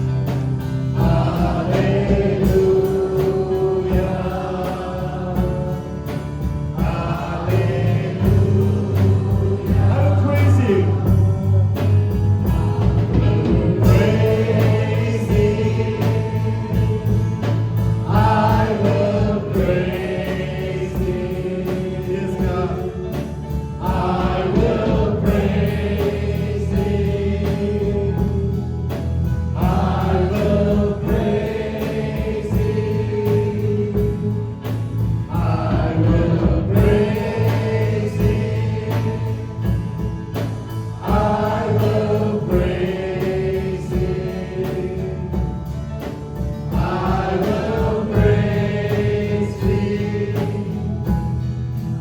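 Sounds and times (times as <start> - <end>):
bass and keyboard notes: 0.0 - 52.0
congregation singing praise song: 0.0 - 52.0
steady drum beat: 0.0 - 52.0.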